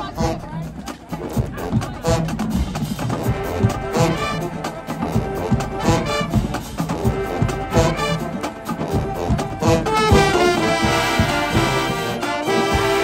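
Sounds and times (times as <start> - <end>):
brass horns playing: 0.0 - 13.0
marching drum beat: 0.0 - 13.0.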